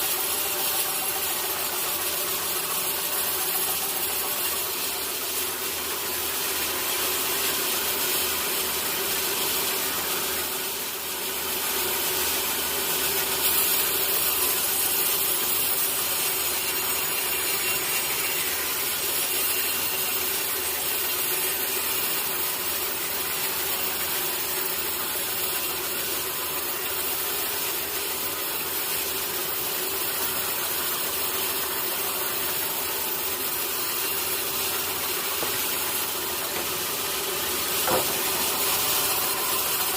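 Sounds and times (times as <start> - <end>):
mill motor hum: 0.0 - 27.2, 29.8 - 39.9
saw rasping through log: 0.0 - 39.9.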